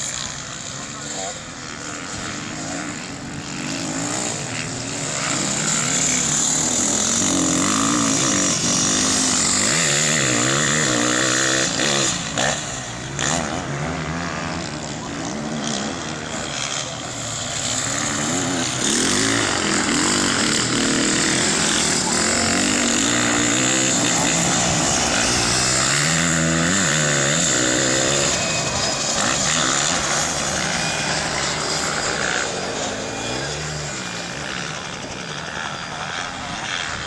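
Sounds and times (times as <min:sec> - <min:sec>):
off-road racing engines revving: 0:00.0 - 0:37.0.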